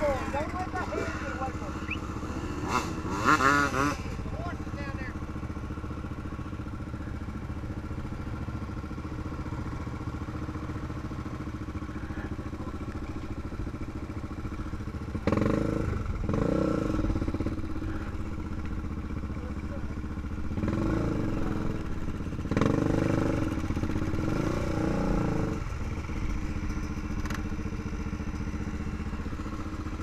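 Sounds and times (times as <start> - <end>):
quad engine idling and revving: 0.0 - 30.0.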